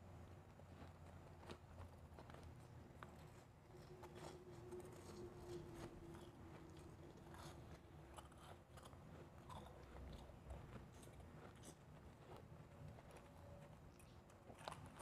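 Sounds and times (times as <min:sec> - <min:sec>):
crunching and chewing ice: 0:00.6 - 0:15.0.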